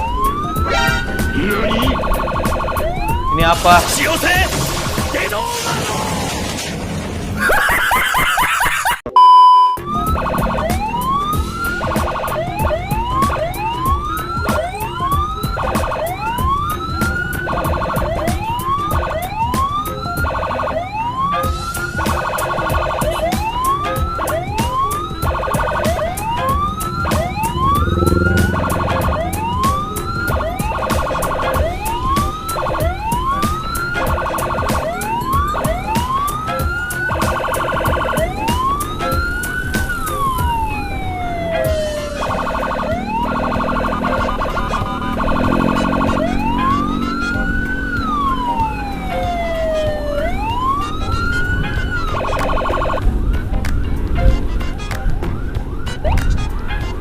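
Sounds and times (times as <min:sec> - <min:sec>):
electronic siren whooping: 0:00.0 - 0:05.6, 0:07.4 - 0:53.1.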